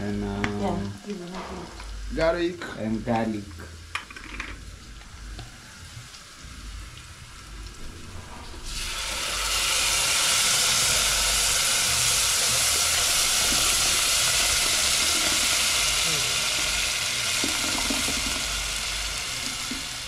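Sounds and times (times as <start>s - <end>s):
sizzling hiss in hot oil: 0.0s - 20.0s.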